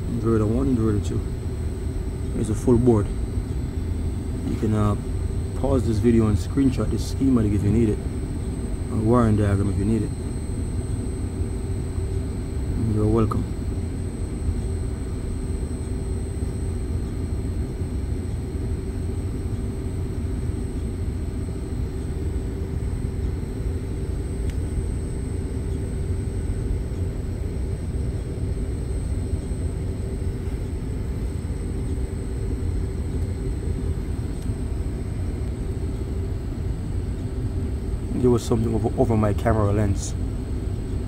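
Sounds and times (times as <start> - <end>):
outdoor air conditioning unit running: 0.0 - 41.0.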